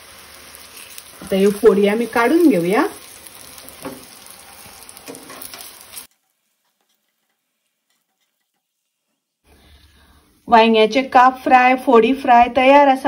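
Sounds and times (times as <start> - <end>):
oil sizzling in a pan: 0.0 - 10.7.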